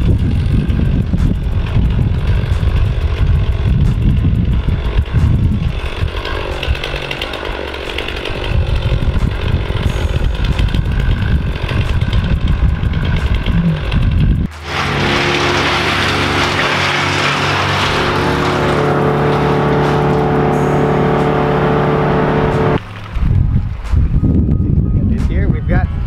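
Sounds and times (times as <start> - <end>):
low rumble: 0.0 - 6.9, 8.3 - 26.0
chainsaw cutting: 0.0 - 23.2.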